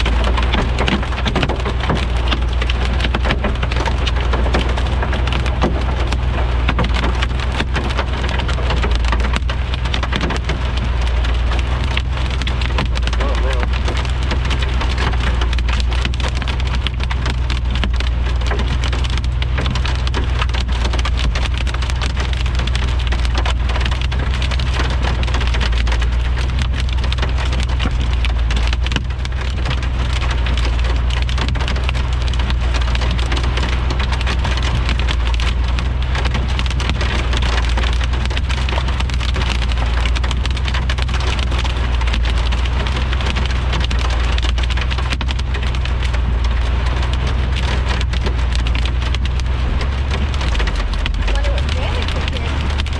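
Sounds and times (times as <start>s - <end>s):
heavy rain pelting: 0.0s - 52.9s.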